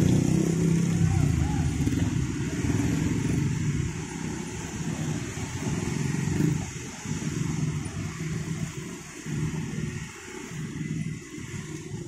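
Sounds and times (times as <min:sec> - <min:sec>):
motorcycle and scooter engines: 0:00.0 - 0:12.0.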